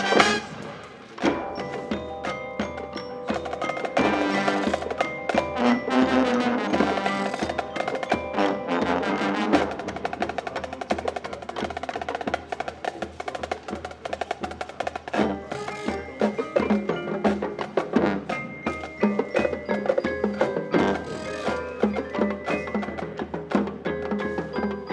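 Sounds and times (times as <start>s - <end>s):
mallet percussion: 0.0s - 24.9s
marching band music: 0.0s - 24.9s.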